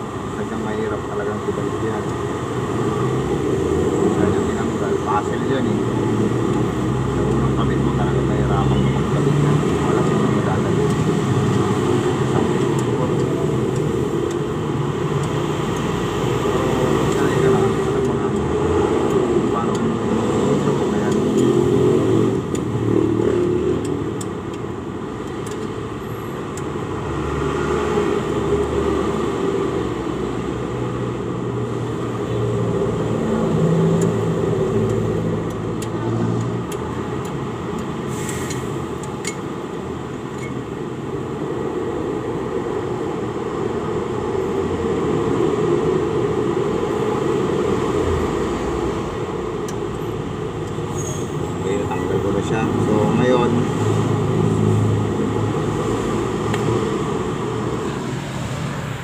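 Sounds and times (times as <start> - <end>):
motor vehicles rumbling: 0.0 - 59.0.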